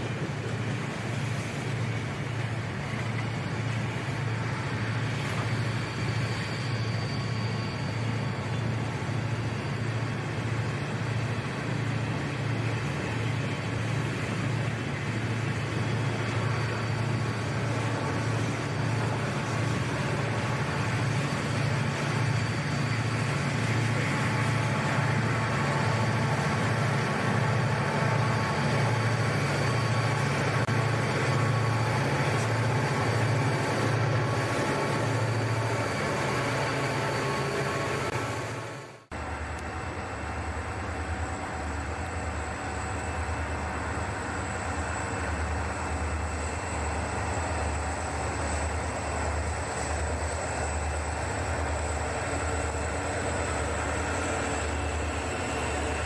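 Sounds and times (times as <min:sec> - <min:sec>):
diesel locomotives droning: 0:00.0 - 0:56.0
train wheels rumbling on rails: 0:00.0 - 0:56.0.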